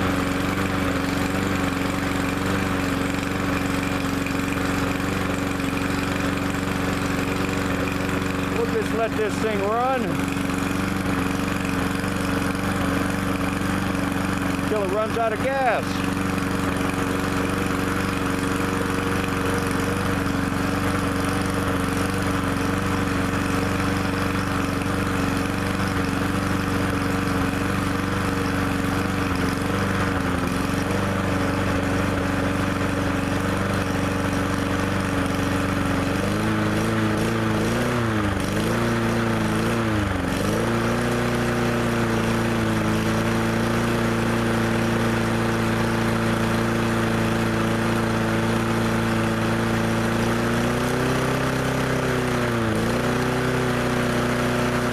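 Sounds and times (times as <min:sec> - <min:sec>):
lawnmower engine idling: 0:00.0 - 0:54.9.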